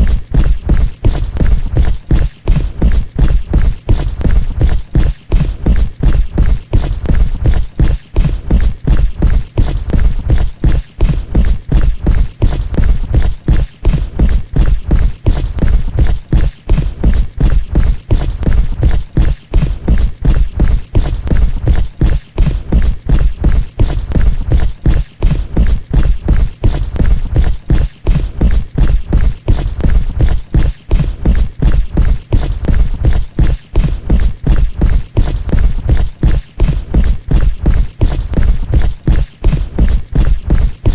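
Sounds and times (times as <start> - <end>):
heavy footsteps thudding: 0.0 - 40.9.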